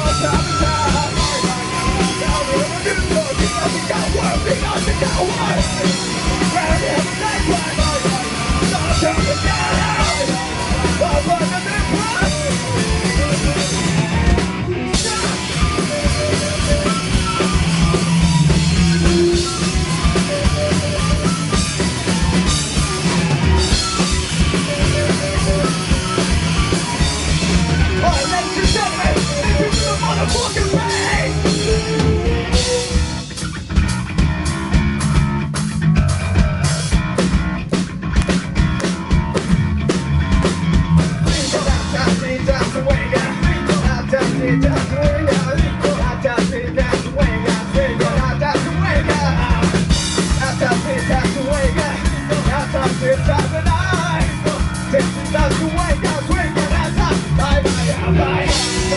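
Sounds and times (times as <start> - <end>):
drum kit: 0.0 - 58.9
electric guitar: 0.0 - 58.9.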